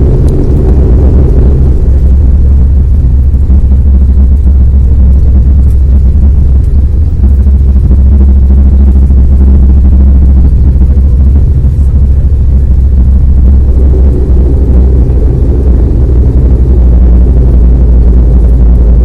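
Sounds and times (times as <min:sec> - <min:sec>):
aircraft engines rumbling in cabin: 0:00.0 - 0:19.0.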